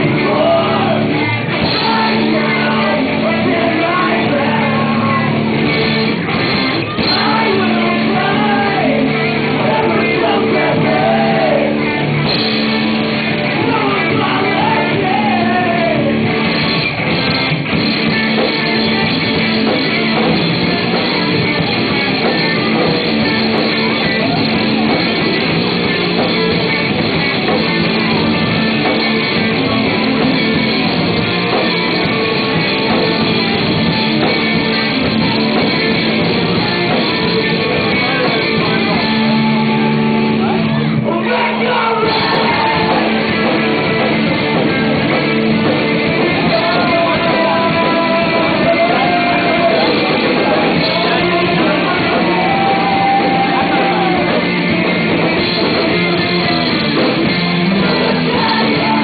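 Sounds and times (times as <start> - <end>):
person singing: 0.0 - 5.8, 6.7 - 12.1, 13.3 - 16.3, 18.3 - 59.0
live rock band playing: 0.0 - 59.0.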